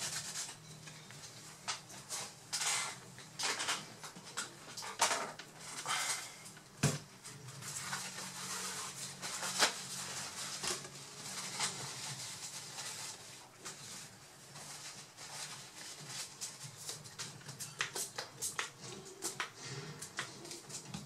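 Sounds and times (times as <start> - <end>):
paper towel rustling: 0.0 - 3.0, 7.0 - 21.0.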